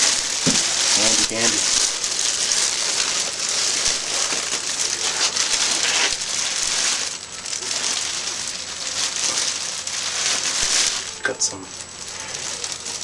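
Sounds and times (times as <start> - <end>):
packing material rustling: 0.0 - 13.0.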